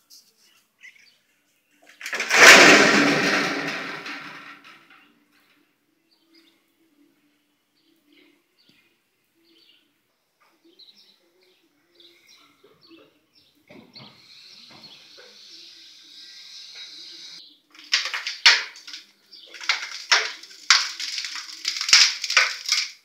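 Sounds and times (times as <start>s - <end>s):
faint birds chirping: 0.0s - 2.0s, 4.7s - 22.8s.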